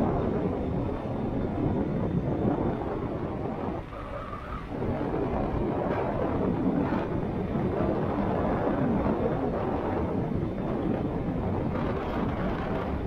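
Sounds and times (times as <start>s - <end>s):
hum of road travel: 0.0s - 13.0s
wind rushing over microphone: 0.0s - 13.0s.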